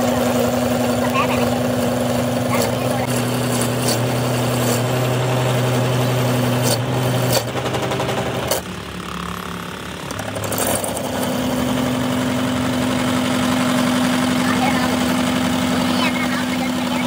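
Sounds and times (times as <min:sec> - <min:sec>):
metal lathe motor hum and clatter: 0:00.0 - 0:17.0.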